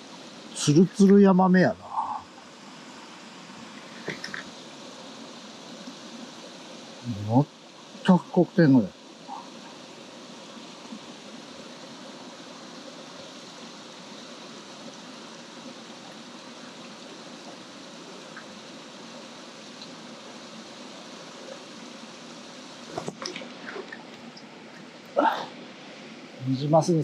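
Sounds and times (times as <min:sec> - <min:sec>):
stream flowing over rocks: 0:00.0 - 0:27.0.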